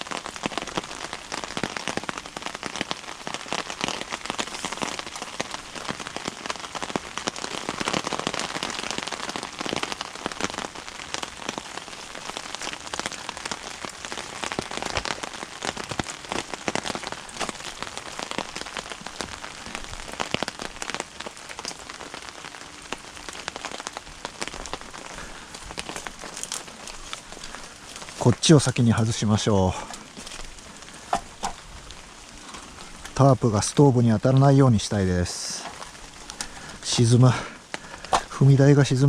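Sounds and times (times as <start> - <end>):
rain pattering on a tarp: 0.0 - 39.0.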